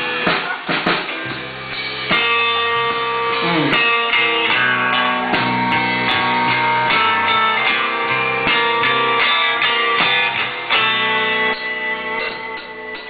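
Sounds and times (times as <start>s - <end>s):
live band music: 0.0s - 13.0s
strummed electric guitar chords: 0.0s - 13.0s.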